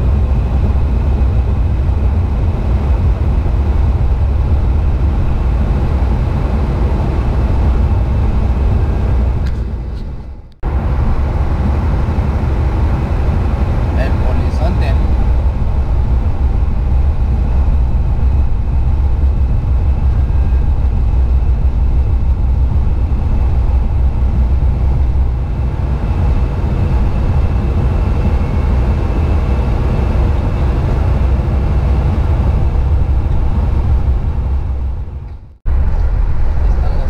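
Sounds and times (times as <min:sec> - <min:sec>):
road and engine rumble: 0:00.0 - 0:37.0.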